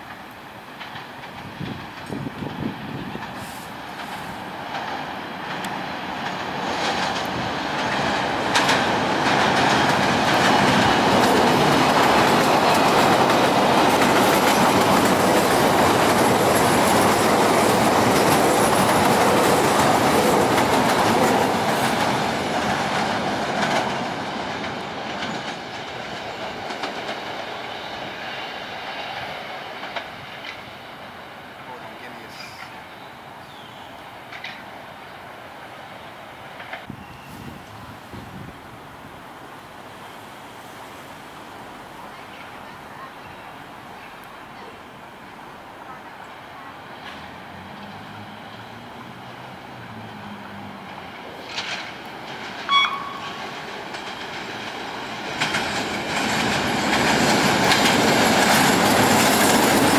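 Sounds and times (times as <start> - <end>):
wheels clicking on rail joints: 0.0 - 34.9, 36.3 - 59.9
train wheels on elevated tracks: 0.0 - 59.9.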